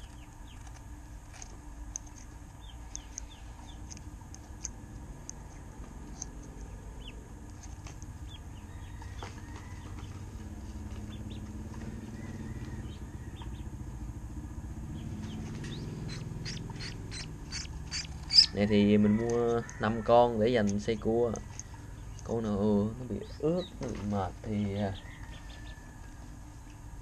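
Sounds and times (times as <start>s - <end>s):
ducklings peeping: 0.0s - 0.9s, 2.5s - 4.0s, 6.4s - 14.1s, 14.8s - 27.0s
low engine rumble: 0.0s - 27.0s.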